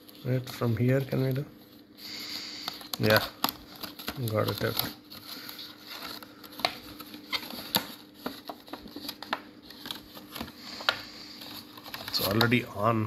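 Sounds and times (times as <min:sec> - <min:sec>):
plastic packaging crackling: 0:02.1 - 0:13.0.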